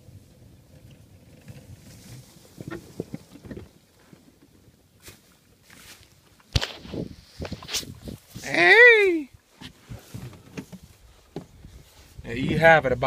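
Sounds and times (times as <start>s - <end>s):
footsteps crunching through dry grass: 1.6s - 8.8s, 9.4s - 13.0s.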